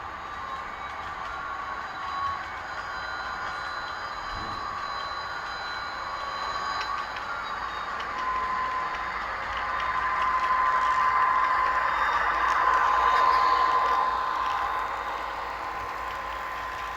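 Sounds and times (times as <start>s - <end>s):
diesel locomotive sounds: 0.0s - 16.9s
model train running noise: 0.0s - 16.9s.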